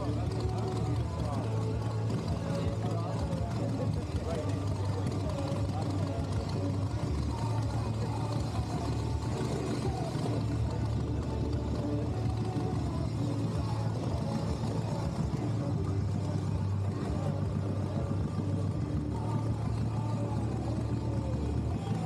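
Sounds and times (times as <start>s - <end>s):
faint voice: 0.0s - 22.0s
motorcycle engine running: 0.0s - 22.0s.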